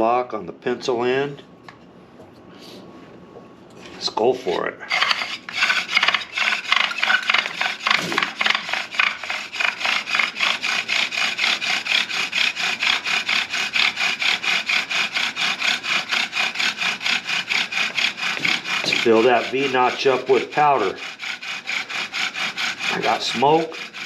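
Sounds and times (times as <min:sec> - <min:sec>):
bow drill rasping rub: 0:04.0 - 0:24.0.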